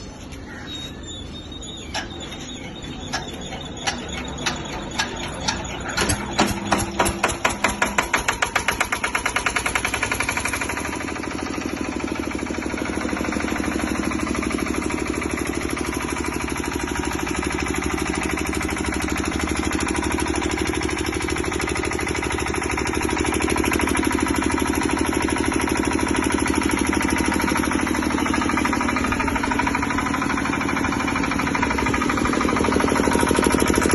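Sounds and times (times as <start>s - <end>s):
diesel generator engine running: 0.0s - 33.9s.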